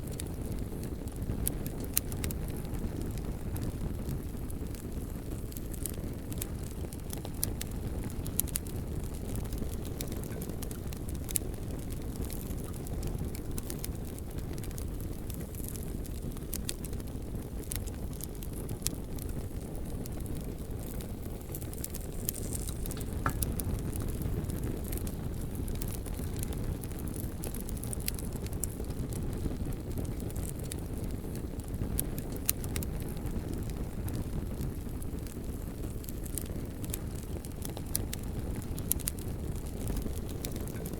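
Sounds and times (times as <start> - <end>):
bonfire flame rumble: 0.0 - 40.9
wood crackling and popping: 0.0 - 40.9.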